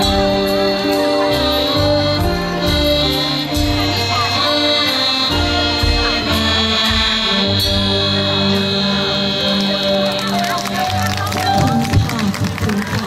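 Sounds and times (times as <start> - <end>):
accordion: 0.0 - 13.0
live band playing: 0.0 - 13.0
steady drum beat: 0.0 - 13.0
walking bass line: 0.0 - 13.0.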